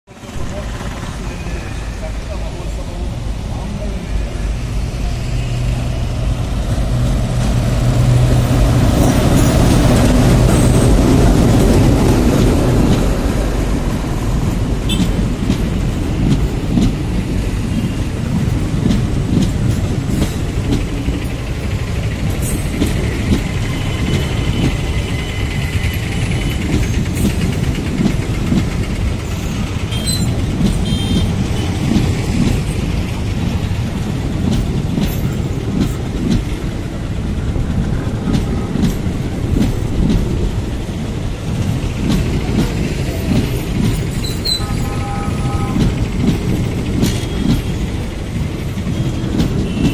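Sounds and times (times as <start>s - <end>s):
diesel locomotive passing: 0.1s - 49.9s
train wheels knocking on rail joints: 5.8s - 49.9s.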